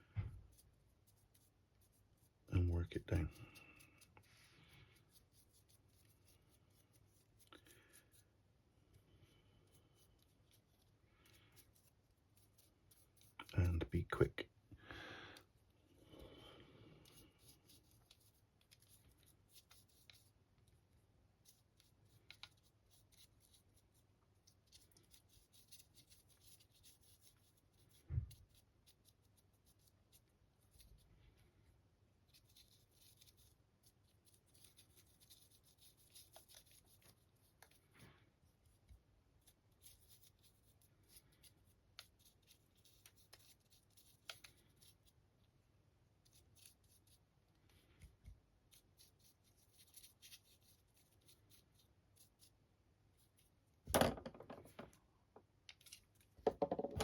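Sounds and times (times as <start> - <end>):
paintbrush scratching: 0.4 - 8.3, 8.9 - 13.5, 17.0 - 31.1, 32.2 - 53.6.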